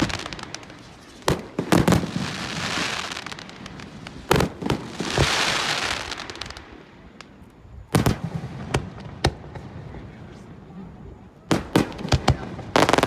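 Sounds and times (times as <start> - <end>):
fireworks hissing crackle: 0.0 - 13.0.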